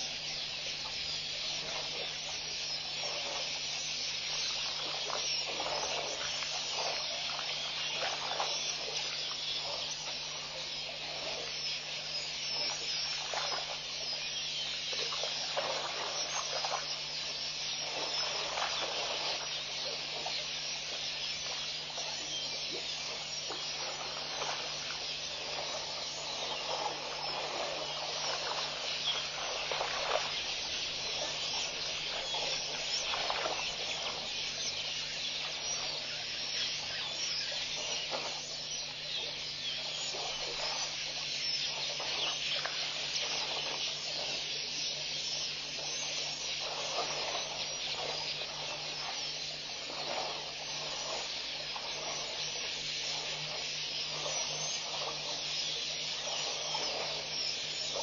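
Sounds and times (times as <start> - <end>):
faint low hum: 0.0 - 58.0
steady high hiss: 0.0 - 58.0
elephants splashing in water: 1.0 - 11.8, 13.2 - 38.5, 45.3 - 58.0.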